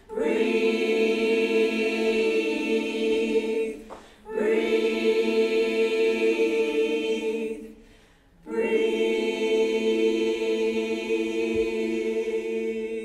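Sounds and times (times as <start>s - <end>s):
choir singing held chord: 0.0s - 13.0s.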